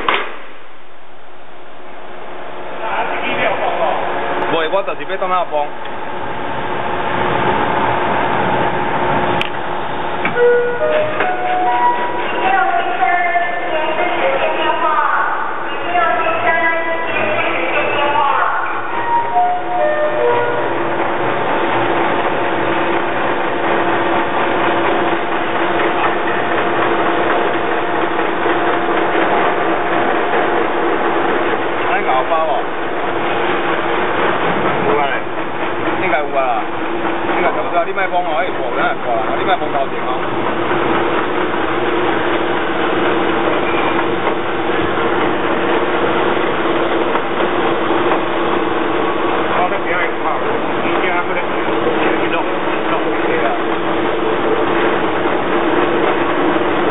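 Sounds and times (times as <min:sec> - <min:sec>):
constant hum: 0:00.0 - 0:56.9
thread rolling machine running: 0:00.0 - 0:56.9.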